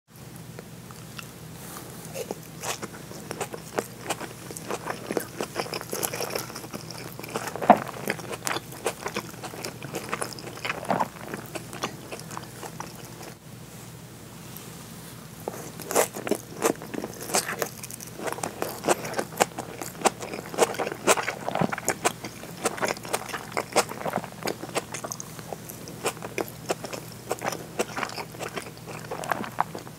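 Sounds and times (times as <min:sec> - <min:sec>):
person chewing with mouth clicks: 0:02.0 - 0:13.4, 0:15.4 - 0:29.9.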